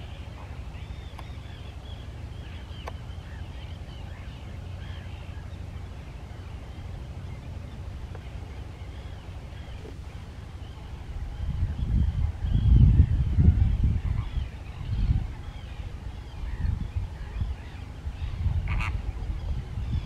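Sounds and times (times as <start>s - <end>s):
distant bird calls: 0.0s - 20.0s
steady low rumble: 0.0s - 20.0s.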